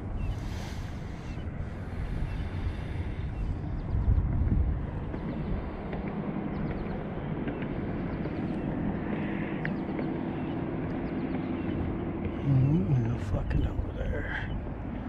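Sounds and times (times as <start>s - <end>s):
distant engine humming: 0.0s - 15.0s
wind rumbling on microphone: 0.0s - 15.0s.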